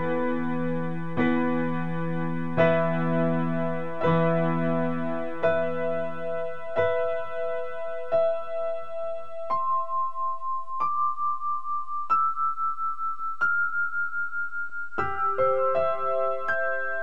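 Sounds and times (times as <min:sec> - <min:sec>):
slow sad piano music: 0:00.0 - 0:17.0.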